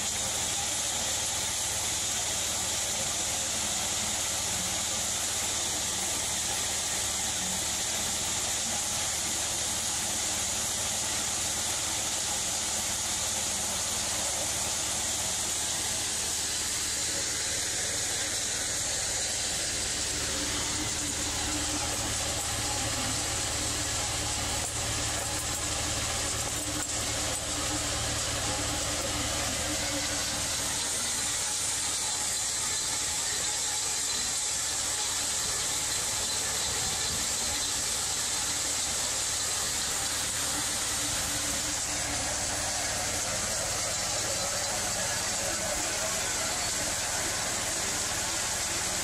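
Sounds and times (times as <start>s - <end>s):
hammer mill grinding: 0.0s - 49.0s.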